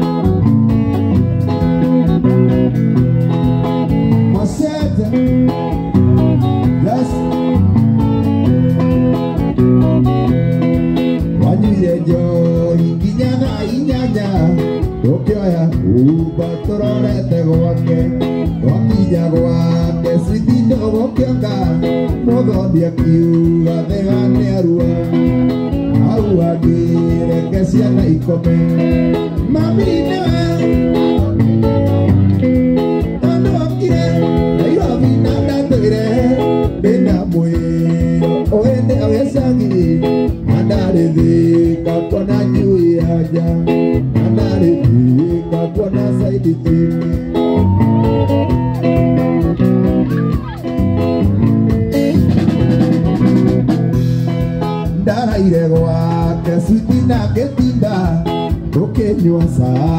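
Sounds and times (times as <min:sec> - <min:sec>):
drum kit beat: 0:00.0 - 0:59.9
guitar playing: 0:00.0 - 0:59.9.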